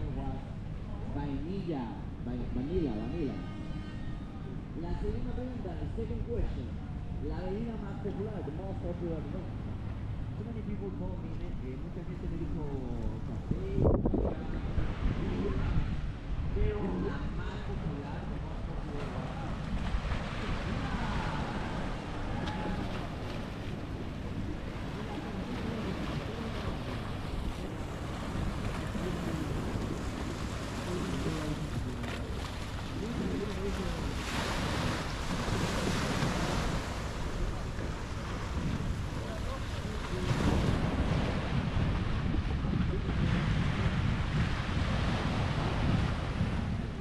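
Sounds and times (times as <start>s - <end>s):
sea surf: 0.0s - 47.0s
wind buffeting microphone: 0.0s - 47.0s.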